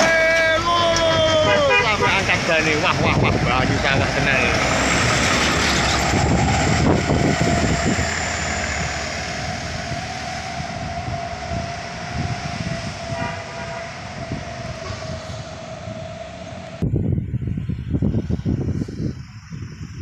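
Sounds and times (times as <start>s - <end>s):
heavy vehicle engine droning: 0.0s - 20.0s.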